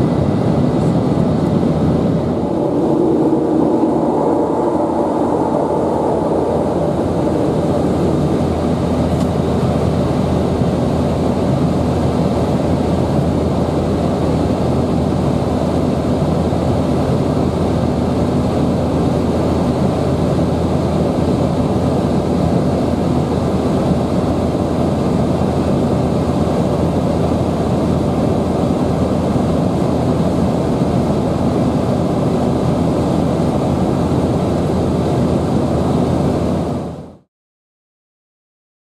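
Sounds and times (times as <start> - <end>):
jet airliner cabin noise: 0.0 - 37.2.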